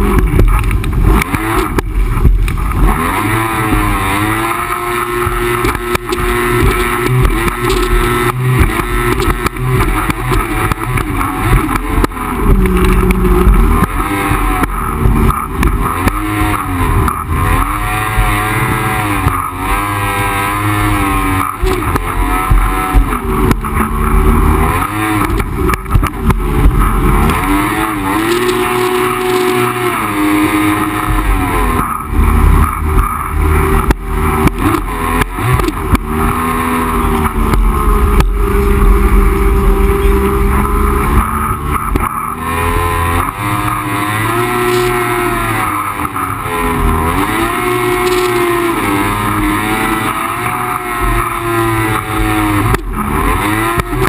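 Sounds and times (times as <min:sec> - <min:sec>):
jet ski engine revving: 0:00.0 - 0:54.0.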